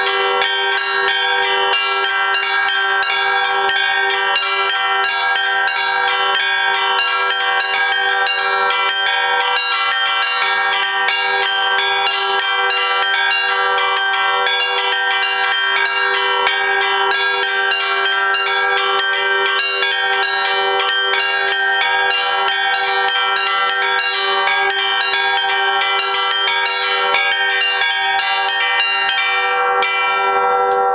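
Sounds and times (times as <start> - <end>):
large bells ringing: 0.0 - 30.9
small high bells struck rapidly: 0.0 - 30.9.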